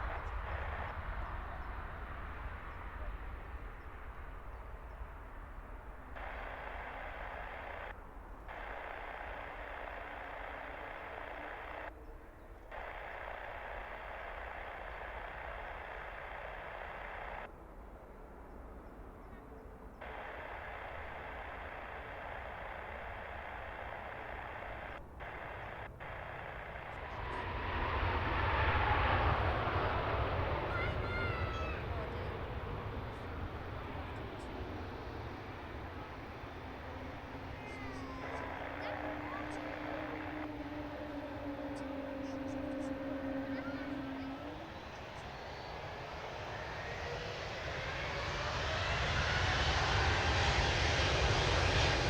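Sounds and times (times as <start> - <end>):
jet engine rushing with whine: 0.0 - 17.6, 18.8 - 52.0.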